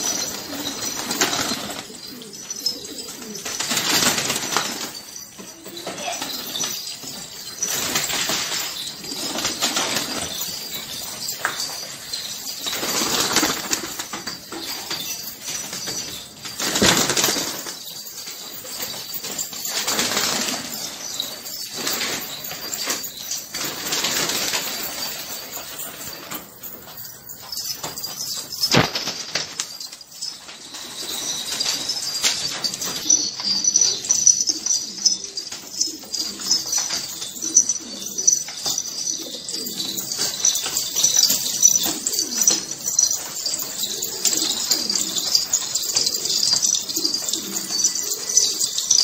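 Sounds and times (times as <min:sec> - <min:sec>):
pigeons cooing: 0:00.0 - 0:49.0
pigeons flapping wings: 0:00.0 - 0:49.0.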